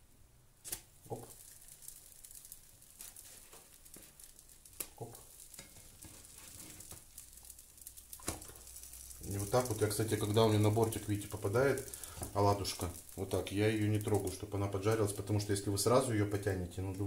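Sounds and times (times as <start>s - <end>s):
pancakes sizzling in a pan: 0.6s - 17.0s.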